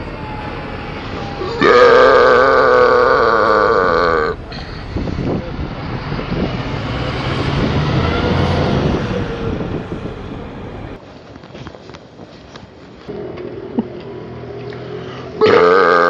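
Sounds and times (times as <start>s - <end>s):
motor vehicle passing: 0.8s - 11.0s, 13.0s - 16.0s.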